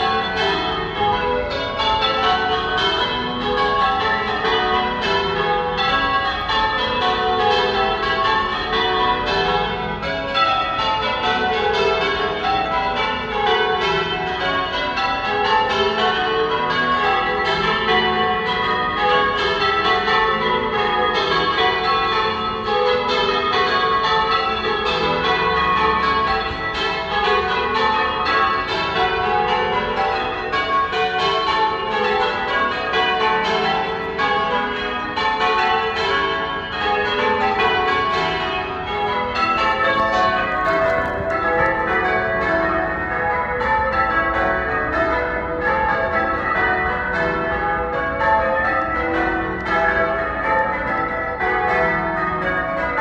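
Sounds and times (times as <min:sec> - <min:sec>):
church bells change ringing: 0:00.0 - 0:53.0.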